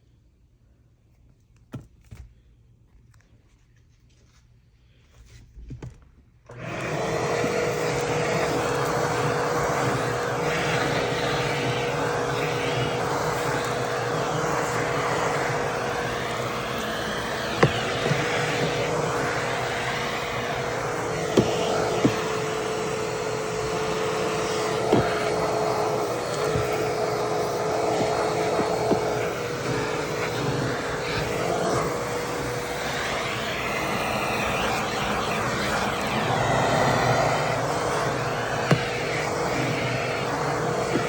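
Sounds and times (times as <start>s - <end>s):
vacuum cleaner motor whine: 6.5s - 41.0s
vacuum nozzle knocking on trim: 7.0s - 41.0s.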